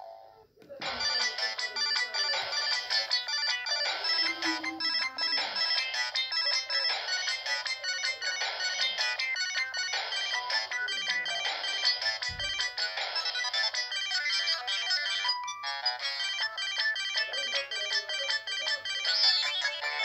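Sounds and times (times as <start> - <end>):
polyphonic phone ringtone: 0.8 - 20.0.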